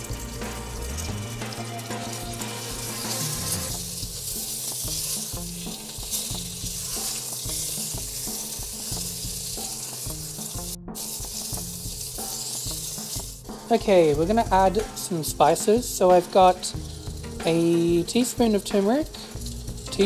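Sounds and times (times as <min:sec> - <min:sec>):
food sizzling in oil: 0:00.0 - 0:20.0
soft background music: 0:00.0 - 0:20.0
spatula scraping a pot: 0:00.0 - 0:20.0.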